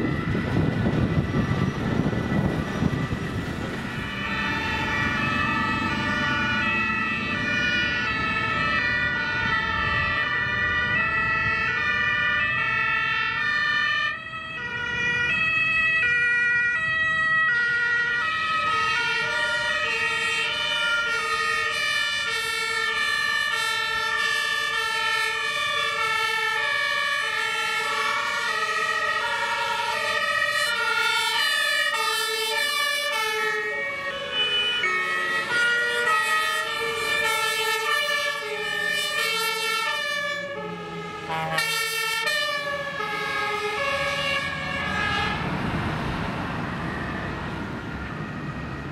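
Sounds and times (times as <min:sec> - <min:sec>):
truck engine rumble: 0:00.0 - 0:48.9
two-tone fire engine sirens: 0:00.0 - 0:48.9.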